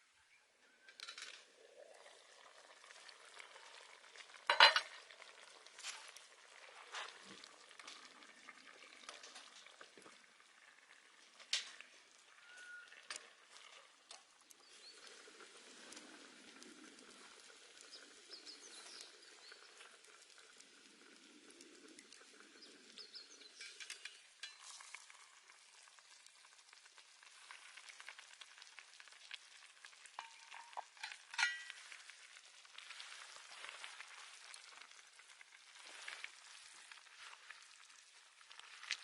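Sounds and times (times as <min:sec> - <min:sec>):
campfire sizzling and crackling: 0:00.9 - 0:39.0.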